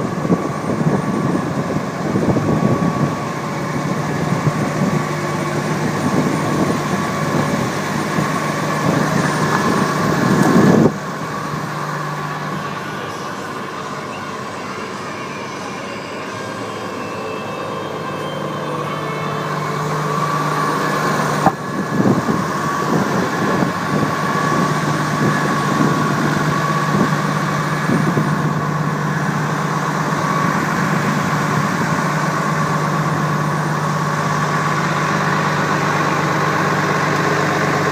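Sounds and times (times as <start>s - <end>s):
truck engine running: 0.0s - 37.9s.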